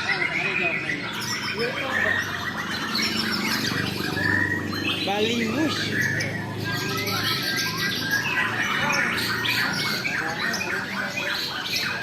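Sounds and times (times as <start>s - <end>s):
birds singing whistles and chattering: 0.0s - 12.0s.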